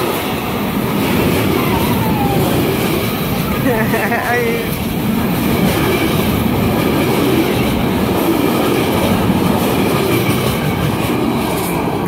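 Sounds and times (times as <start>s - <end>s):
freight train wheels clattering: 0.0s - 12.0s.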